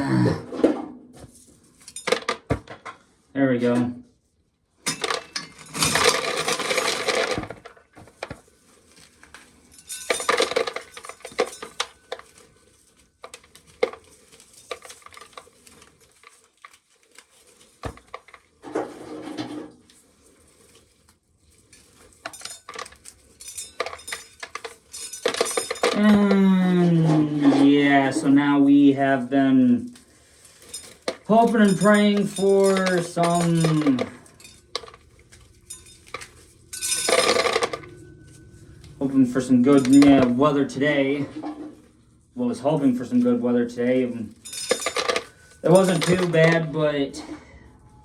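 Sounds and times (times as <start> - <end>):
corn kernels rattling in container: 4.9 - 41.2, 42.5 - 47.1.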